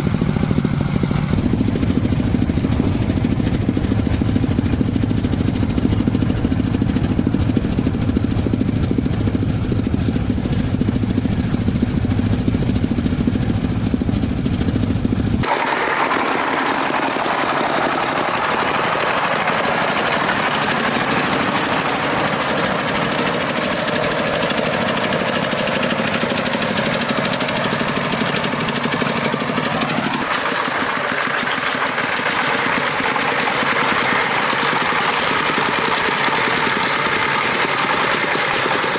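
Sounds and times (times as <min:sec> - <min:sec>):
higher busier engine noise: 0:00.0 - 0:31.5
truck engine knocking: 0:00.0 - 0:38.9.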